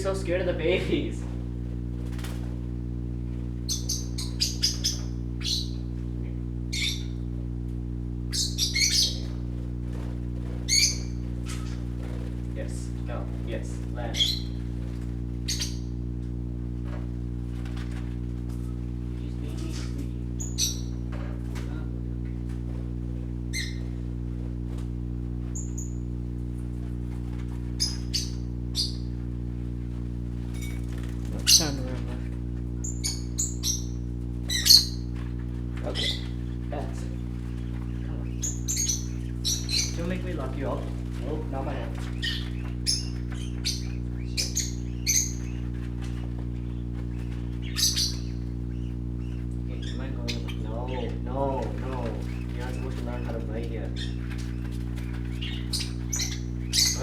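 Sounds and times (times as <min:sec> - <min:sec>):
low electrical hum: 0:00.0 - 0:57.0
parakeets chirping: 0:00.0 - 0:57.0.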